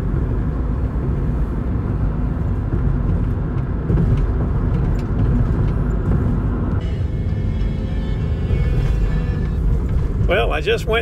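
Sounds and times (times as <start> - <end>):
van road and engine rumble: 0.0 - 11.0.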